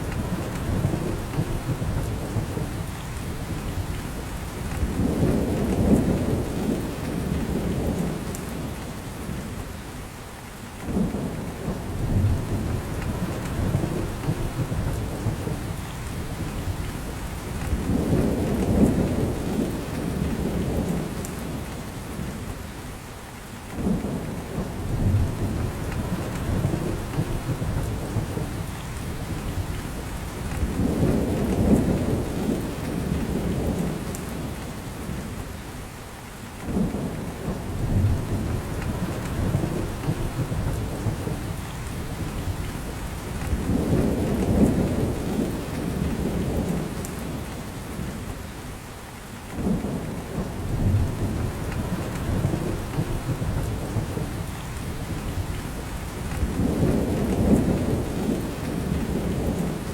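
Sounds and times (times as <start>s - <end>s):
rain falling on forest: 0.0s - 59.9s.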